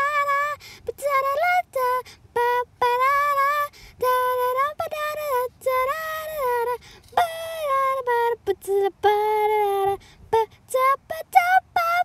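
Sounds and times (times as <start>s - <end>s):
woman singing wordless melody: 0.0s - 12.0s.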